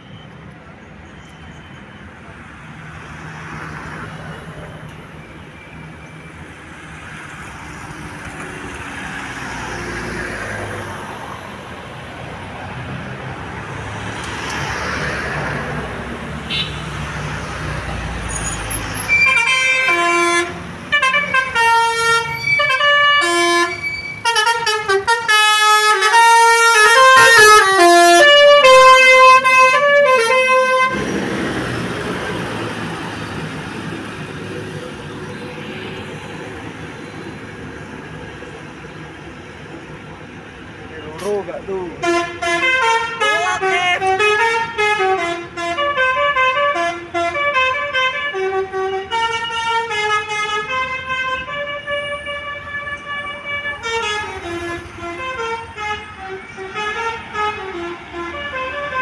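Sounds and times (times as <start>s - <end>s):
large vehicle engine and road noise: 0.0s - 59.0s.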